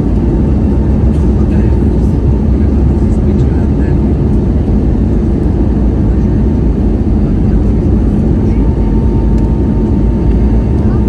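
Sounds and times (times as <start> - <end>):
jet engine rushing noise in cabin: 0.0 - 11.0.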